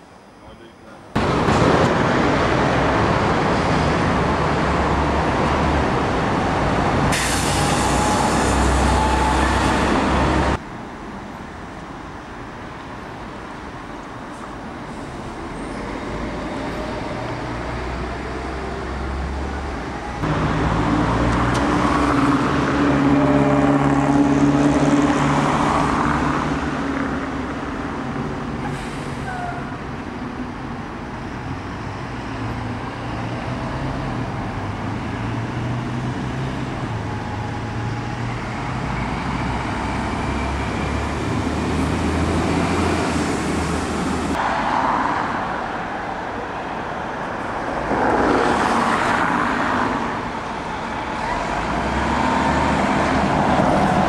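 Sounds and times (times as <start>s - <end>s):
diesel bus engines: 0.0s - 54.0s
traffic noise: 0.0s - 54.0s.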